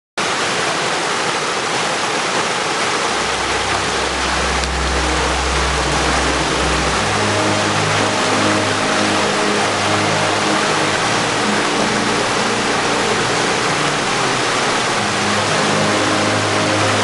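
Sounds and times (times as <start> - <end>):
stream rushing over rocks: 0.2 - 17.0
low held music notes: 2.9 - 17.0.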